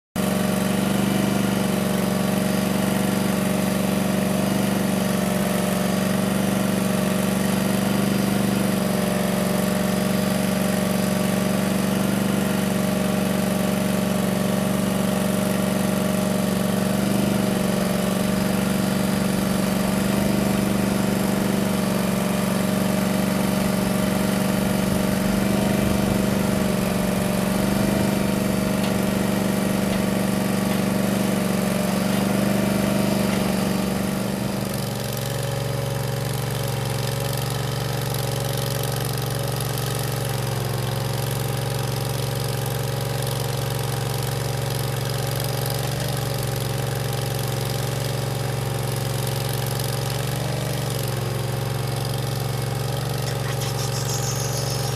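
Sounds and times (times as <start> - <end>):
gasoline engine running: 0.2 - 54.9.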